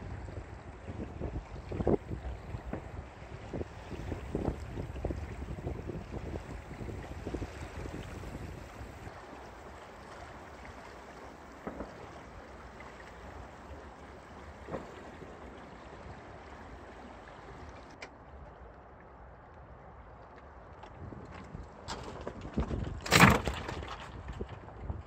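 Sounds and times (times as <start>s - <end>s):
water rushing along a hull: 0.0s - 25.0s.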